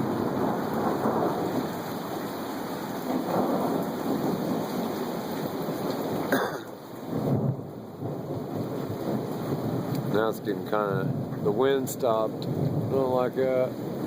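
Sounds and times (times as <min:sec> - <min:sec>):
heavy rain pouring: 0:00.0 - 0:14.0
low thunder: 0:00.0 - 0:14.0.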